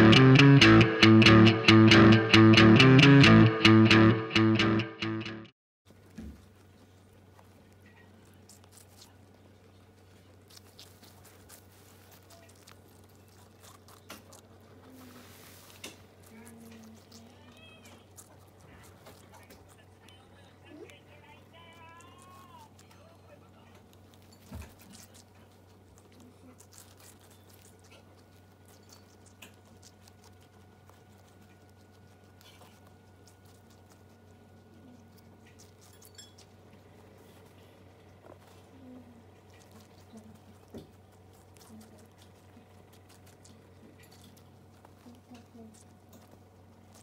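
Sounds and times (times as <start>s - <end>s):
guinea pigs chewing: 5.9s - 47.0s
low steady hum: 5.9s - 47.0s.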